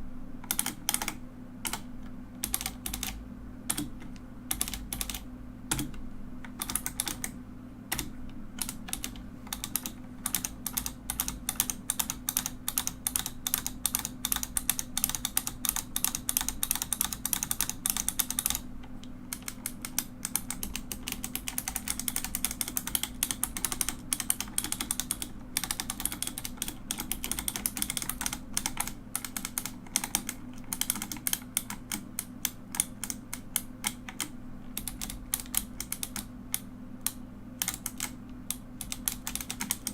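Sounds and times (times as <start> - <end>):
mechanical keyboard typing: 0.4 - 18.7, 19.3 - 39.9.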